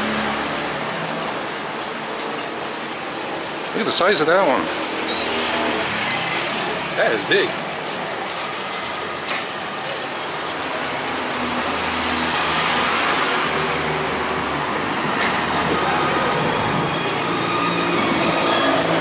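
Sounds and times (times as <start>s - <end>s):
city street traffic: 0.0s - 19.0s
vehicle engine running nearby: 0.0s - 19.0s.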